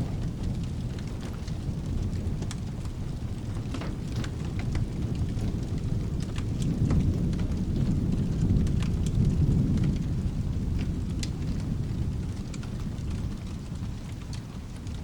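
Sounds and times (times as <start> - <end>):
fireplace pops and crackles: 0.0 - 15.0
low rolling thunder: 0.0 - 15.0
steady rain: 0.0 - 15.0.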